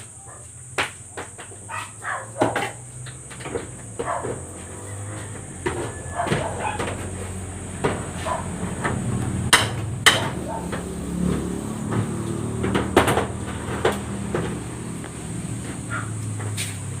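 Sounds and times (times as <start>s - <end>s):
hammer blows: 0.8s - 16.9s.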